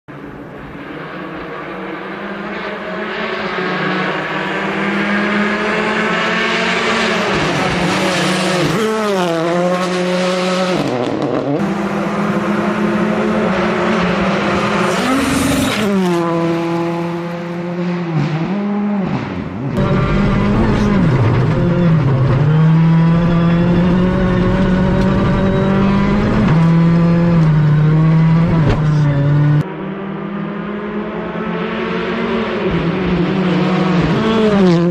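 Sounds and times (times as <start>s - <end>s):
rally car engine accelerating: 0.1s - 34.9s.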